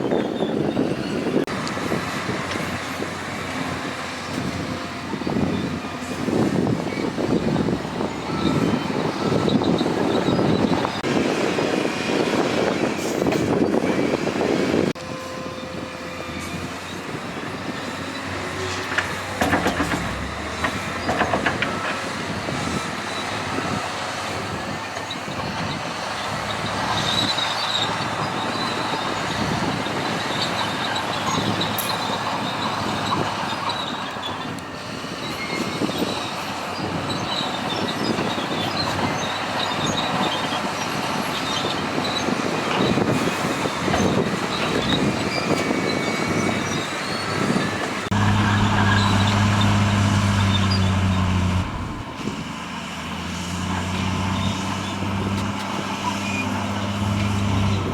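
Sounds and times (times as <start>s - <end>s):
diesel engine rumble: 0.0s - 57.9s
metallic squeals and clanks: 3.9s - 11.1s, 15.0s - 52.4s, 53.6s - 57.9s.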